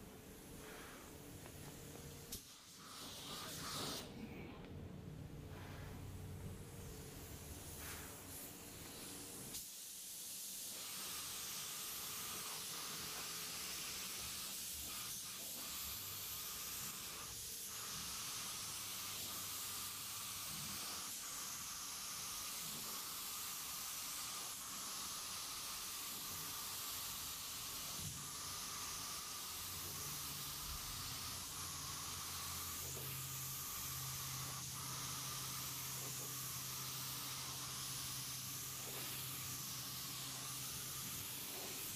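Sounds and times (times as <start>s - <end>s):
paint spray gun hissing: 0.4s - 4.1s, 6.6s - 41.9s.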